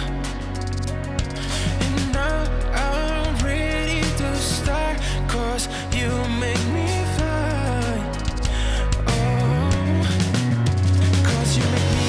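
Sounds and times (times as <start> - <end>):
pop song with vocals and drums: 0.0 - 12.0.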